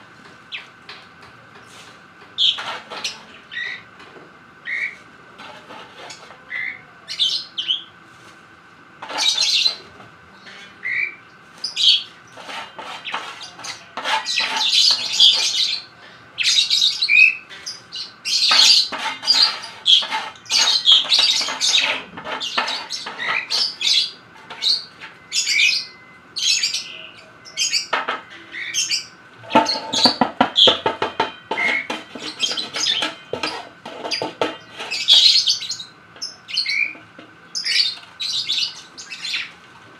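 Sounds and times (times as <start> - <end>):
lovebirds chirping and squawking: 2.4 - 3.9, 4.6 - 7.9, 9.0 - 39.6.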